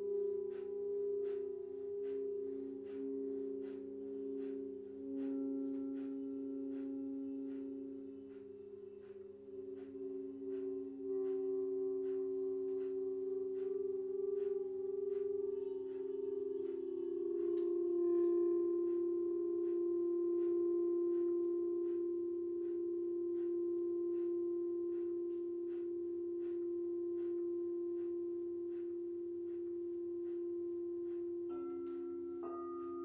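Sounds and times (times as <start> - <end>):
singing bowls ringing: 0.0 - 33.0.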